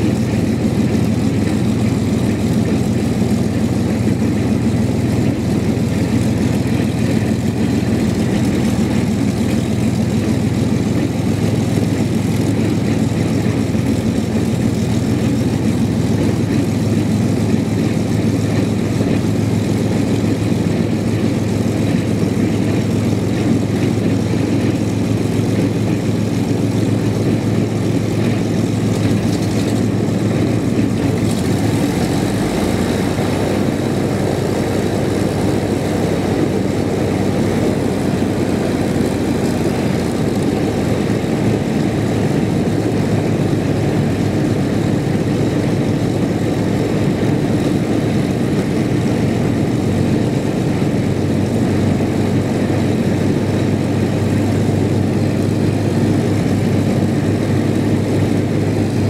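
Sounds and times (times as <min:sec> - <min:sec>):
propeller plane engines idling: 0:00.0 - 0:59.0.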